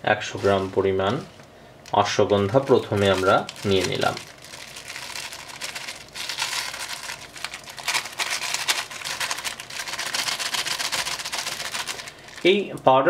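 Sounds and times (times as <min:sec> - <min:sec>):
paper wrapper crinkling: 0:00.3 - 0:12.6.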